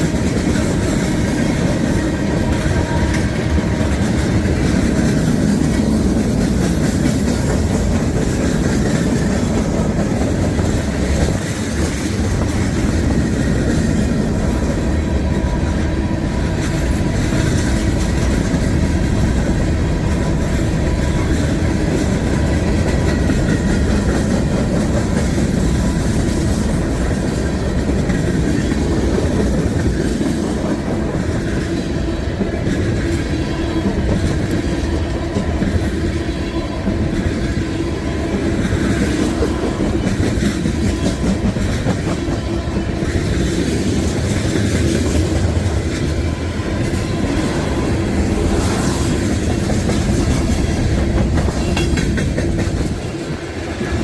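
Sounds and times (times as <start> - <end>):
train wheels clicking over rail joints: 0.0 - 54.0.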